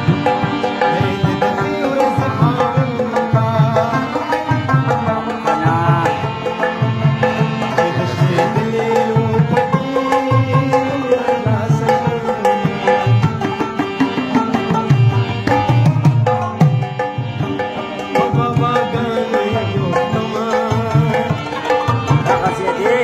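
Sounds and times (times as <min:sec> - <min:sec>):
harmonium melody: 0:00.0 - 0:23.0
tabla rhythm: 0:00.0 - 0:23.0.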